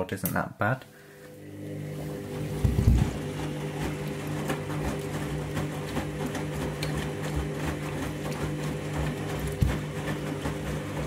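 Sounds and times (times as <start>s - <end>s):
washing machine motor humming: 0.9s - 11.0s.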